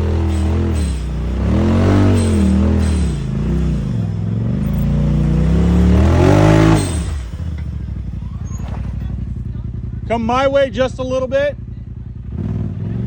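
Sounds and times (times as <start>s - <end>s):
utility vehicle engine revving: 0.0s - 10.3s, 10.9s - 13.0s.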